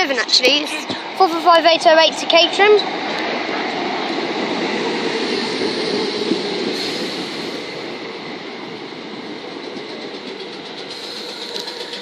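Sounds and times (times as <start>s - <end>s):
train rumbling to a stop: 0.0s - 12.0s.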